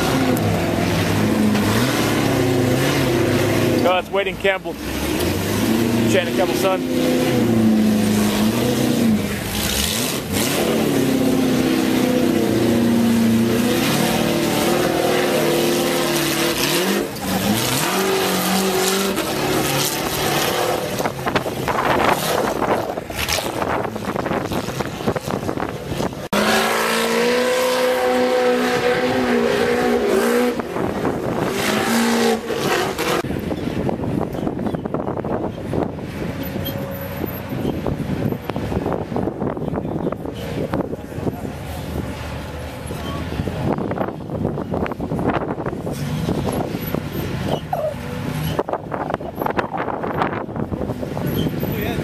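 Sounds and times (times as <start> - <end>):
race car engines revving: 0.0 - 52.0.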